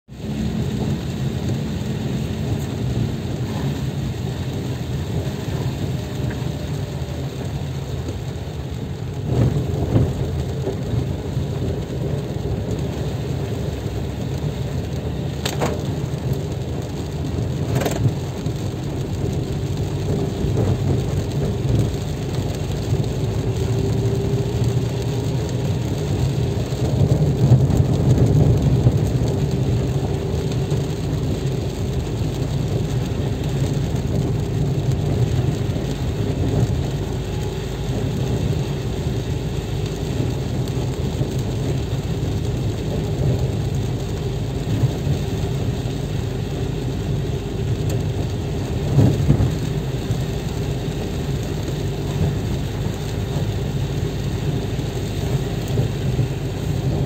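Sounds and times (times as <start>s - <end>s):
car engine and tyre rumble: 0.0s - 57.0s
rain on car: 0.0s - 57.0s.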